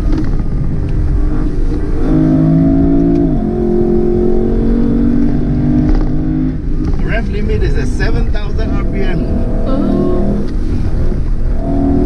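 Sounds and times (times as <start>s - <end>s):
car engine pulling: 0.0s - 12.0s.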